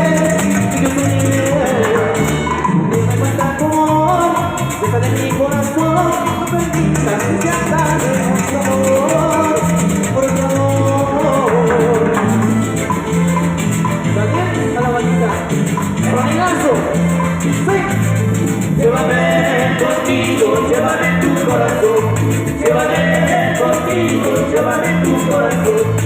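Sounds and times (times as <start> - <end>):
shaker rattling: 0.0 - 2.4, 3.0 - 14.0, 15.2 - 26.0
bass line: 0.0 - 26.0
melodic lead line: 0.0 - 26.0.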